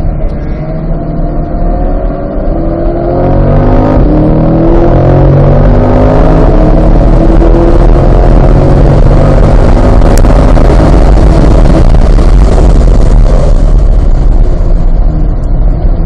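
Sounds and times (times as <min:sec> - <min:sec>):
car engine accelerating: 0:00.0 - 0:16.0
road and wind noise: 0:00.0 - 0:16.0.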